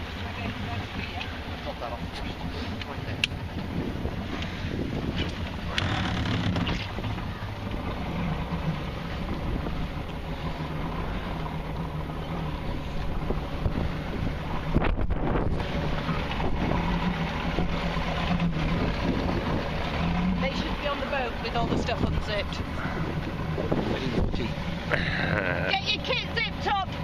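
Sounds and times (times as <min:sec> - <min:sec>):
outboard motor running: 0:00.0 - 0:27.0
wind buffeting microphone: 0:00.0 - 0:27.0.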